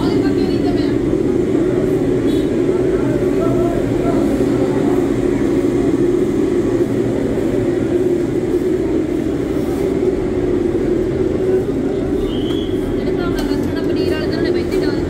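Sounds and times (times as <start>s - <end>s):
burner roaring: 0.0s - 13.0s
blower hum: 0.0s - 15.0s.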